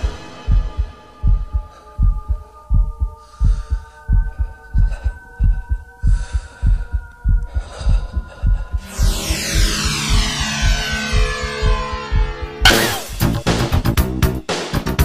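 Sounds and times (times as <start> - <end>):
heartbeat thumps: 0.0 - 12.7.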